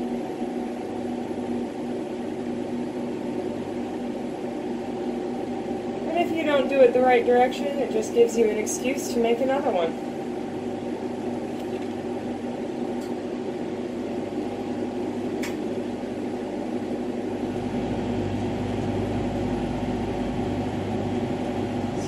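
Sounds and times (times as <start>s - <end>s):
torch hum and rush: 1.0s - 22.0s.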